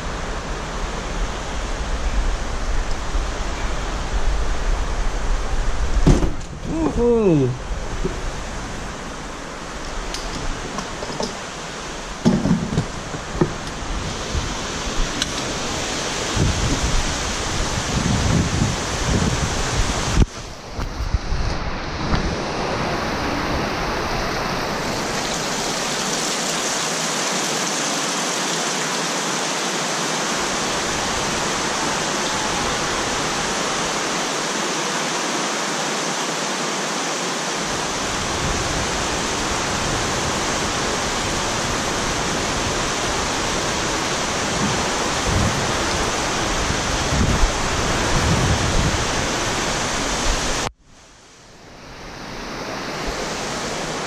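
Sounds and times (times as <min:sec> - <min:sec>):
heavy rain pouring: 0:00.0 - 0:50.8, 0:51.4 - 0:54.0.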